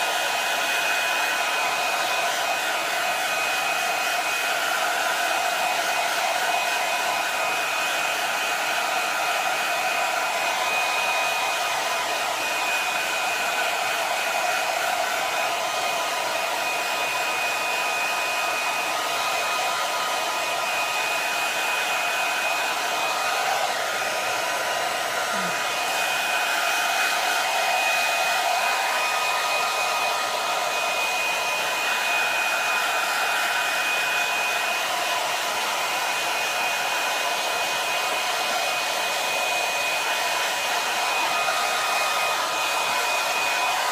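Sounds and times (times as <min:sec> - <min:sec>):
blow dryer running: 0:00.0 - 0:43.9.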